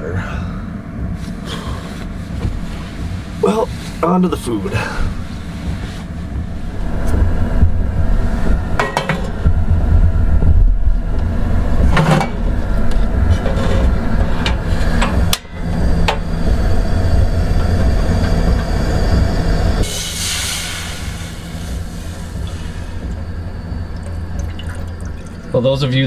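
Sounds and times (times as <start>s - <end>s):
gas burner hissing: 0.0s - 26.0s
steady low rumble: 0.0s - 26.0s.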